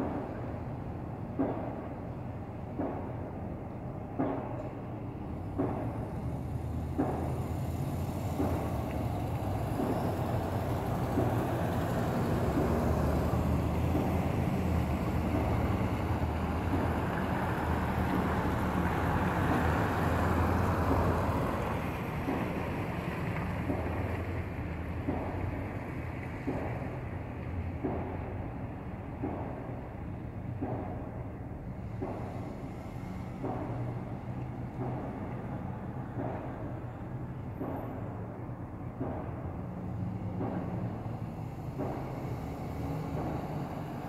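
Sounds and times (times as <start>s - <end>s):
distant pile driving thuds: 0.0s - 44.0s.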